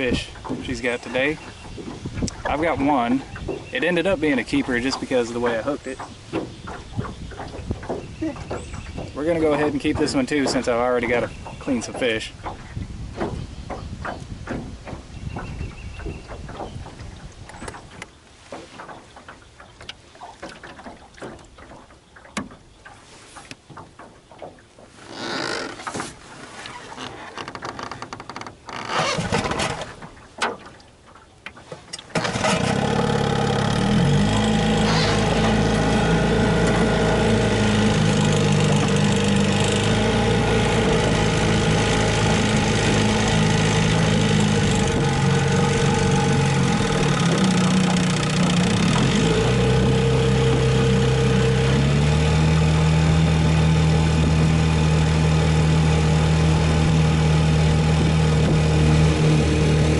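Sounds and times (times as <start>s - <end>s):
outboard motor starting and running: 0.0s - 59.9s.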